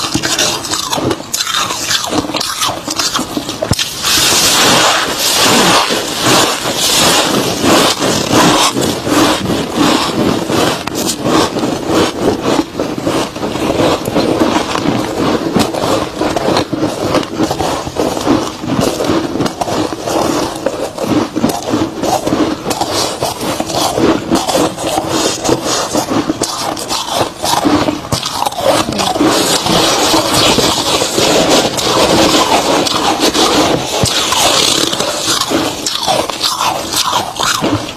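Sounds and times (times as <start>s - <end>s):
chewing crunchy frost: 0.0s - 37.9s.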